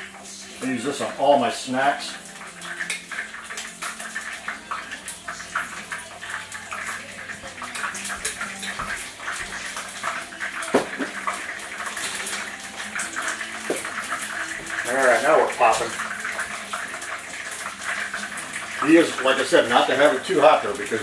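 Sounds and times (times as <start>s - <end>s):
chicken frying in oil: 0.0s - 21.0s.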